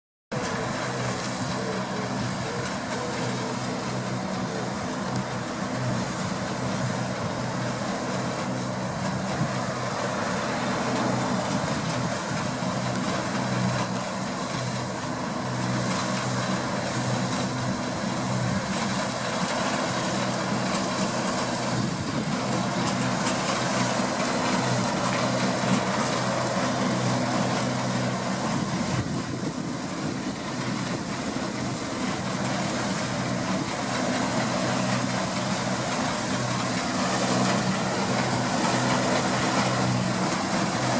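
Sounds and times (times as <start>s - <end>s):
combine harvester engine: 0.3s - 40.9s
harvesting machinery rushing: 0.3s - 40.9s.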